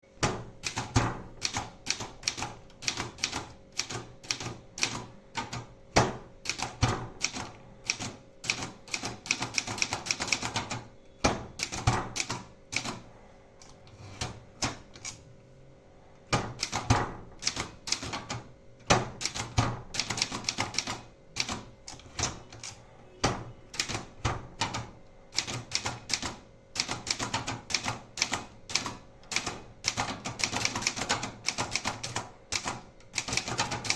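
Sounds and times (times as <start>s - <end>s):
typewriter keystrokes clacking: 0.2s - 13.0s, 16.3s - 22.8s, 23.7s - 33.9s.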